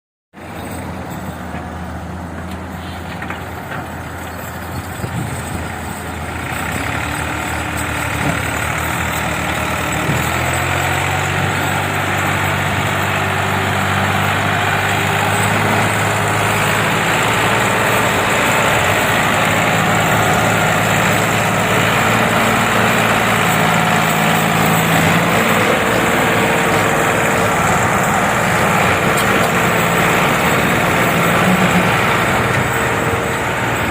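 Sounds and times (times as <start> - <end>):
tractor engine revving: 0.4 - 33.9.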